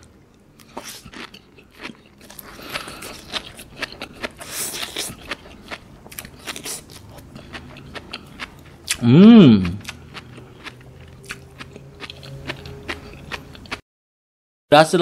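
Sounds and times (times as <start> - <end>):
chewing crisp wet food: 0.3 - 9.0, 9.6 - 13.8.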